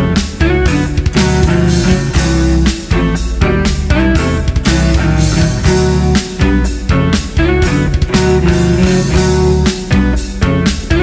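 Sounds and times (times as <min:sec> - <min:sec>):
progressive metal with guitar and drums: 0:00.0 - 0:11.0.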